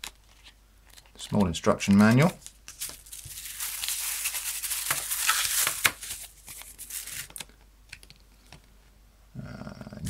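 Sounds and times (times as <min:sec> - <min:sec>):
paper and plastic rustling: 0:00.0 - 0:08.6.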